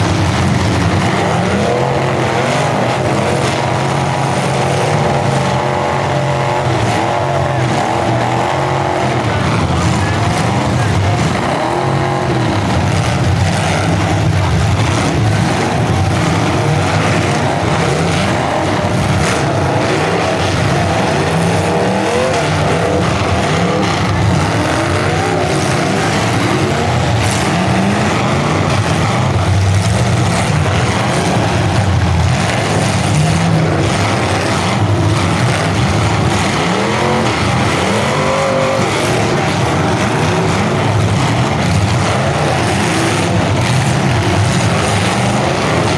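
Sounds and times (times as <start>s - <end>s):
car engines revving: 0.0s - 45.9s
cars crashing: 0.0s - 45.9s.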